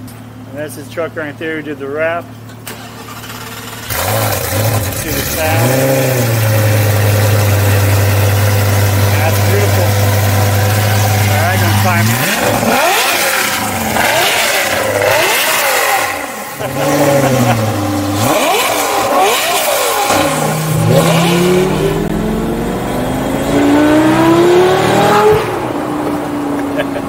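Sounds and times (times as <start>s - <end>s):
sports car engine revving: 3.1s - 27.0s.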